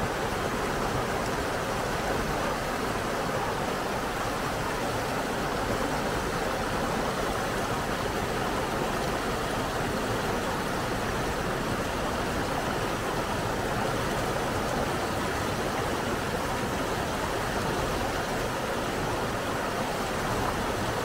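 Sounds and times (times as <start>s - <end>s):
river rapids rushing over rocks: 0.0s - 21.0s.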